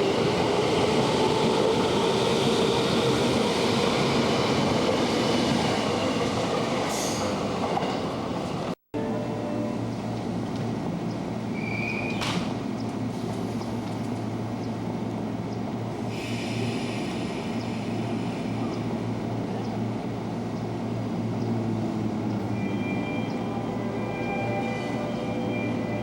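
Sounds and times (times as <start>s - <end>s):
electric train rumbling on track: 0.0s - 26.0s.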